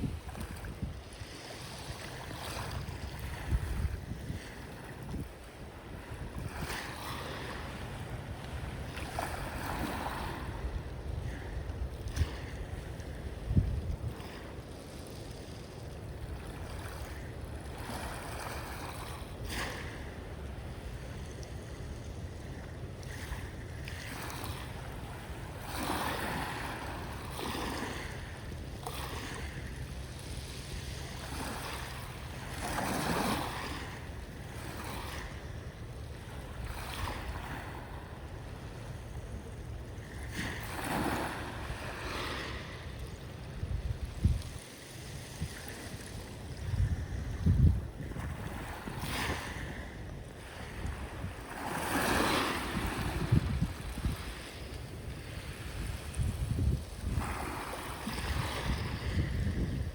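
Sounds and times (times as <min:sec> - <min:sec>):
sea waves washing in: 0:00.0 - 0:59.9.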